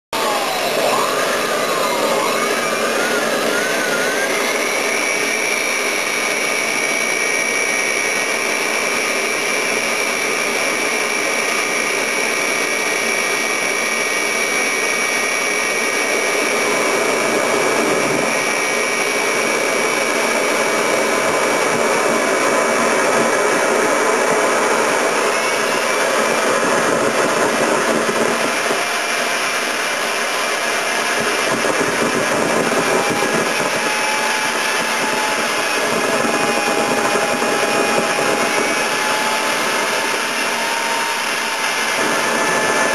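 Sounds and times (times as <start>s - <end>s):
turbojet engine roaring and whining: 0.1s - 42.9s.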